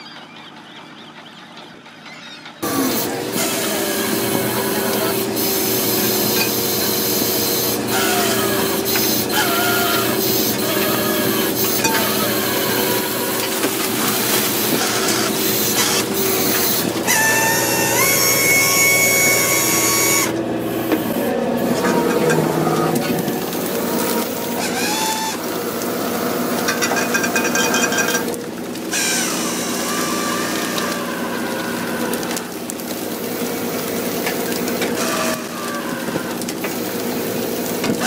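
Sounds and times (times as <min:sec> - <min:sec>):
boat machinery humming: 0:00.0 - 0:38.0.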